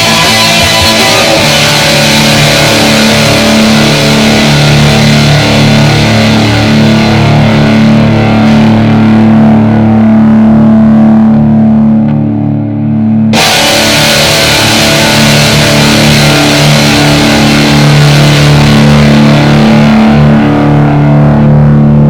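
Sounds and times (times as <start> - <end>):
rock music with distorted guitar: 0.0 - 22.0.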